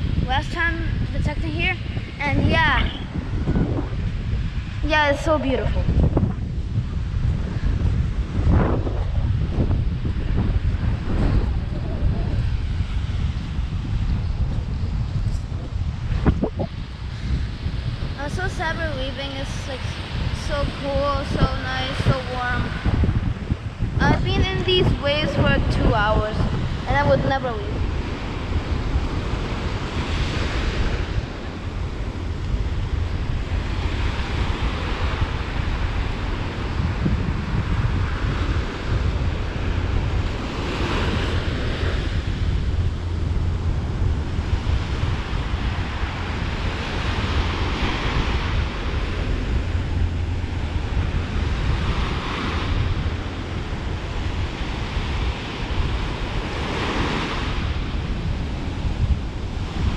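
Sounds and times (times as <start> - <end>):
small waves breaking on beach: 0.0 - 59.9
wind rumble on microphone: 0.0 - 59.9.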